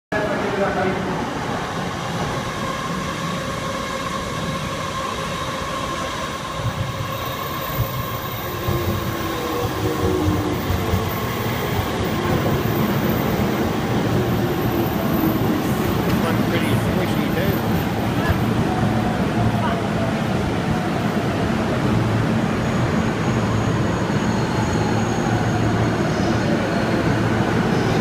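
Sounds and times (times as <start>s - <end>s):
train wheels rumbling on rails: 0.5s - 28.0s.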